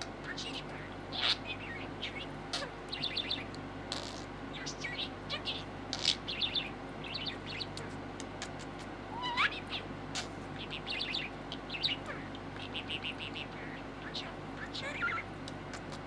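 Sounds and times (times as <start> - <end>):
budgerigar chattering and chirping: 0.0 - 16.0.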